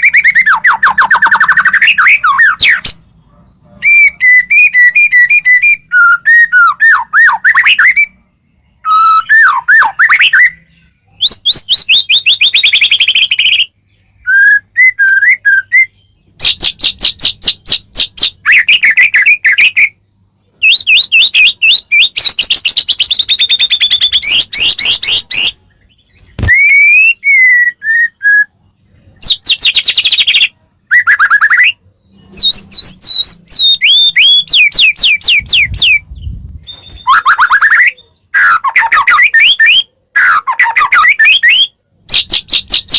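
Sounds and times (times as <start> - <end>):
bird song with whistles and trills: 0.0 - 42.9.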